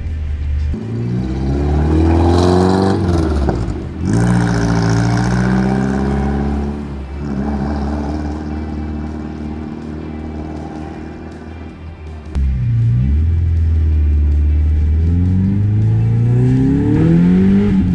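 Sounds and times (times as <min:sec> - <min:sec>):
car engine accelerating: 0:00.0 - 0:17.9.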